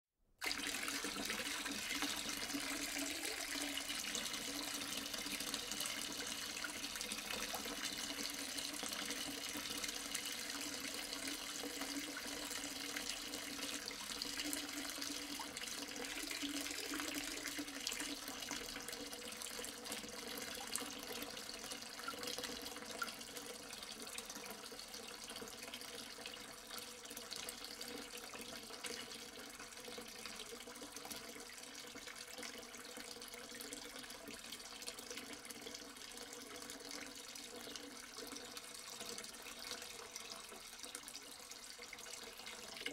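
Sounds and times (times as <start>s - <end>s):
water pouring into sink: 0.4s - 42.9s.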